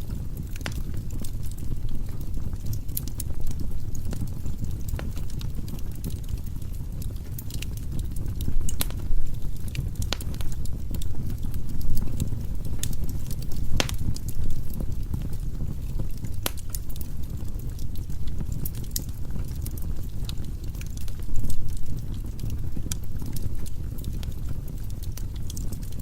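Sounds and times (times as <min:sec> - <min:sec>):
fire rumbling: 0:00.0 - 0:26.0
firewood crackling and popping: 0:00.0 - 0:26.0.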